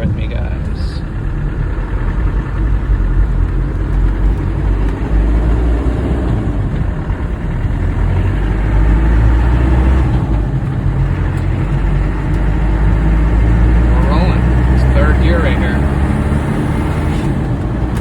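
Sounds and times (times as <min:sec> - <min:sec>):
truck engine accelerating: 0:00.0 - 0:18.0.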